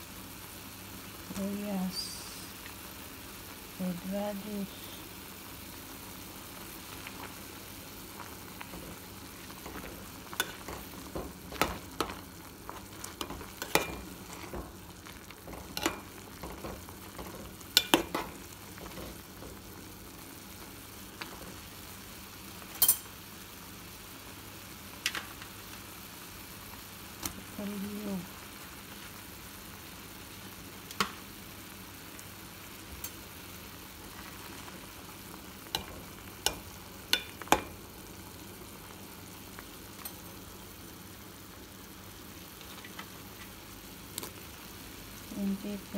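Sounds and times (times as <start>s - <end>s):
pot boiling and bubbling: 0.0s - 45.9s.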